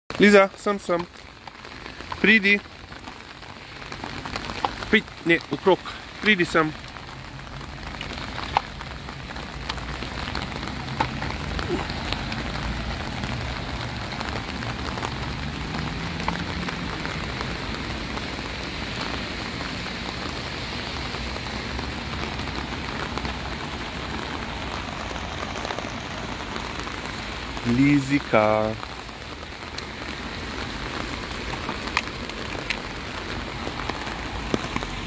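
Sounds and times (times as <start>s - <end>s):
heavy rain on umbrella and pavement: 0.1s - 35.0s
raindrop hits: 0.1s - 35.0s.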